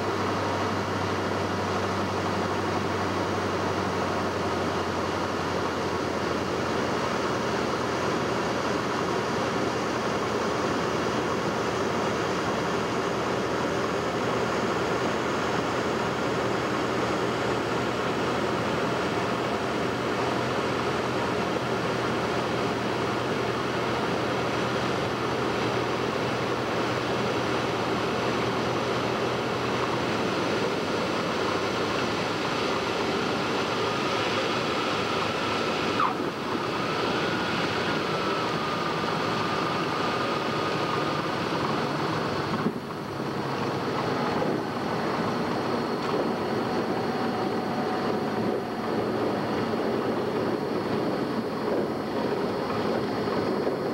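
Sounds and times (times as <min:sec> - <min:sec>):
airflow noise: 0:00.0 - 0:53.9
airplane engine and propeller: 0:00.0 - 0:53.9.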